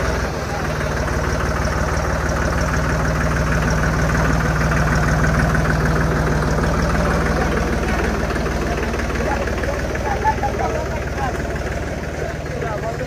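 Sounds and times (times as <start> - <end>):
diesel tractor engine chugging: 0.0 - 13.0.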